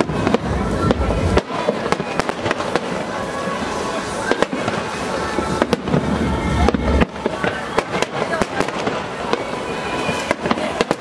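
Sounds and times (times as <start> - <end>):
firework crackling: 0.0 - 11.0.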